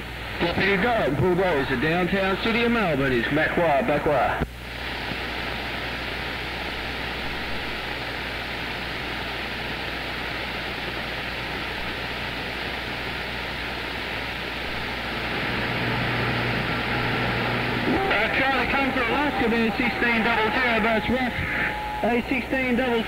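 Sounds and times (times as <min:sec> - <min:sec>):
low steady hum: 0:00.0 - 0:23.0
radio static hiss: 0:00.0 - 0:23.0.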